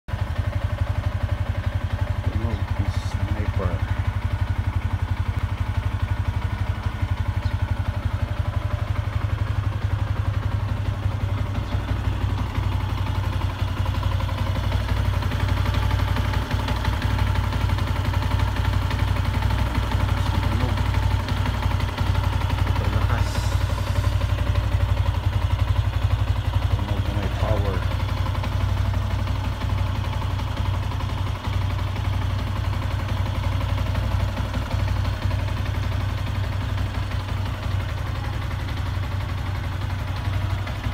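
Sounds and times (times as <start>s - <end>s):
motorcycle engine idling: 0.0s - 40.9s
clattering engine tick: 0.1s - 40.9s.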